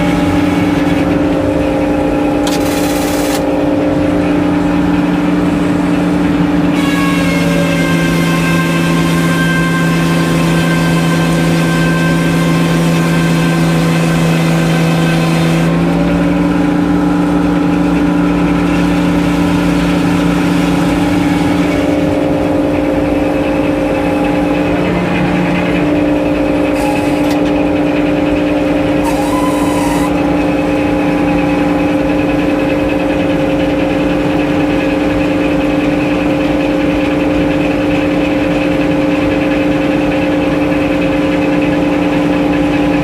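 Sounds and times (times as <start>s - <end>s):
sawmill engine drone: 0.0s - 43.0s.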